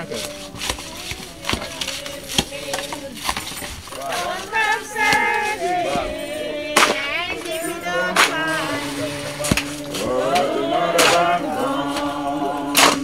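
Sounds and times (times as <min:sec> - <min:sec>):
congregation singing a gospel song: 0:00.0 - 0:13.0.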